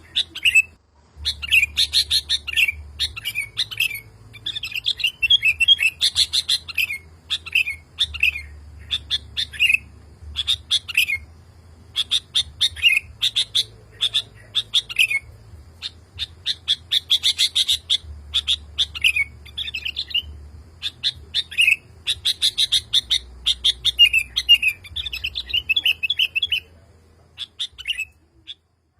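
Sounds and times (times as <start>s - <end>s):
bulbul singing: 0.0s - 28.9s.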